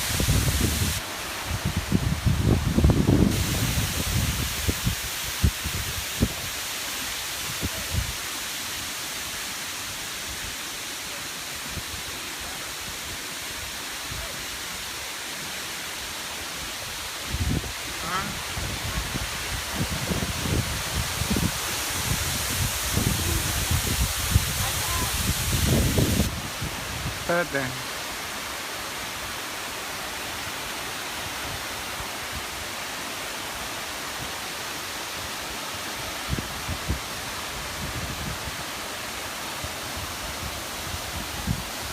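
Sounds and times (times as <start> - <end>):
falling water rushing hiss: 0.0 - 41.9.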